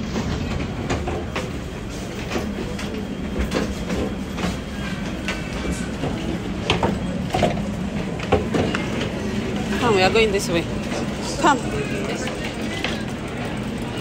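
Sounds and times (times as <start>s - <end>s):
rail clicks and clacks: 0.0s - 14.0s
train rumbling on rails: 0.0s - 14.0s.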